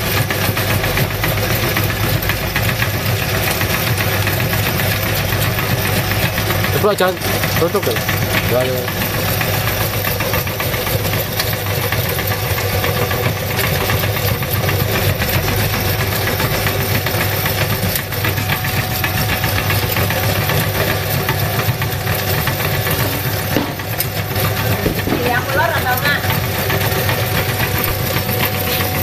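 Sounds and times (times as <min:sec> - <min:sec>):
meat grinder running: 0:00.0 - 0:29.0.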